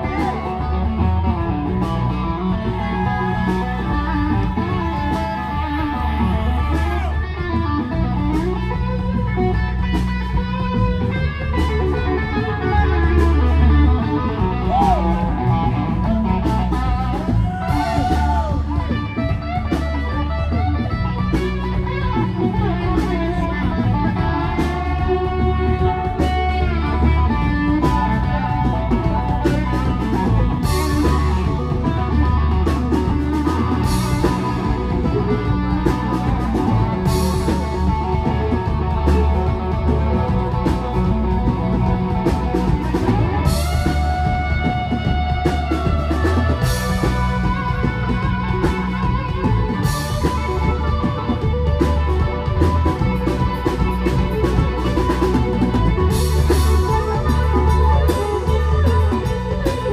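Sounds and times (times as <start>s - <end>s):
bass and drums: 0.0s - 59.9s
electric guitar: 0.0s - 59.9s.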